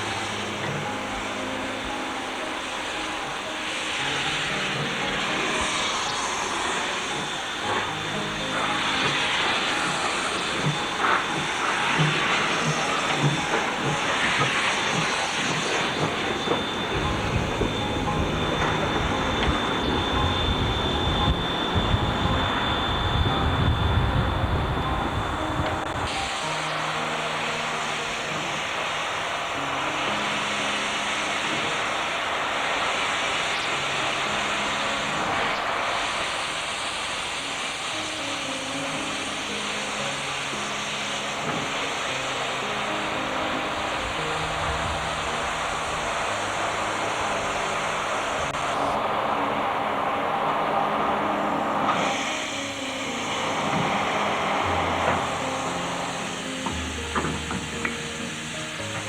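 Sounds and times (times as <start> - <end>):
steady hiss: 0.0 - 59.0
train running on track: 0.0 - 59.0.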